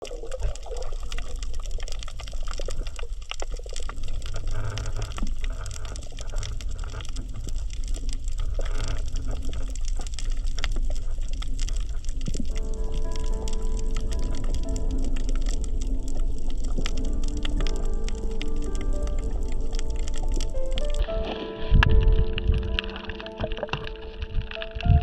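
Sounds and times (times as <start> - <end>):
crackle of tiny clicks underwater: 0.0 - 25.0
low rumble of water: 0.0 - 25.0.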